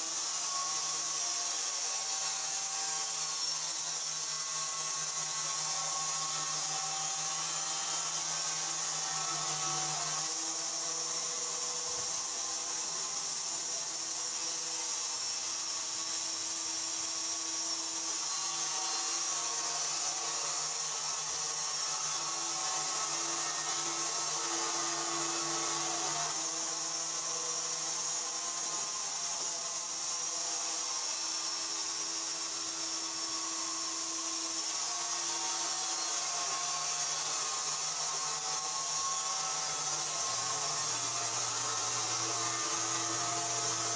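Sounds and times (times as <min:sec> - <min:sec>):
saw cutting wood: 0:00.0 - 0:43.9.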